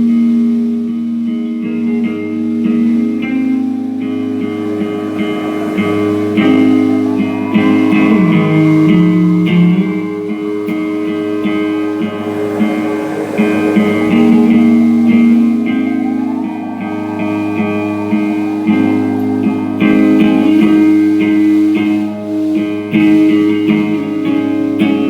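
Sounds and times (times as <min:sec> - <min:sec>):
live band guitars: 0:01.3 - 0:25.0.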